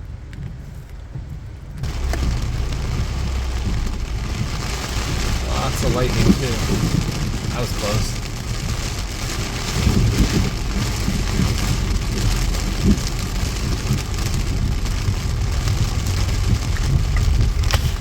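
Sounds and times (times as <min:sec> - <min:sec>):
low thunder rumble: 0:01.1 - 0:18.0
heavy rain pouring: 0:01.8 - 0:18.0.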